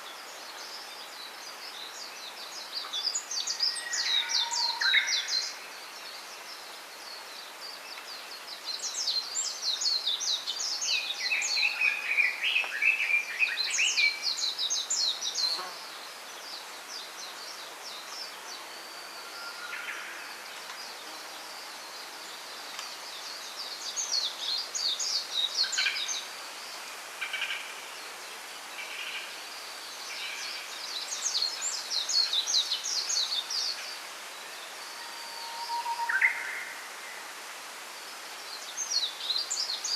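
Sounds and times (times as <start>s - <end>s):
background hiss: 0.0s - 39.9s
songbirds twittering: 0.0s - 39.9s.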